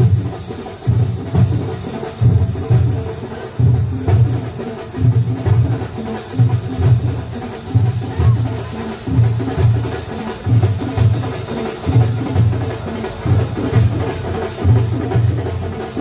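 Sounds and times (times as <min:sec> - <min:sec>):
heavy low drum beats: 0:00.0 - 0:16.0.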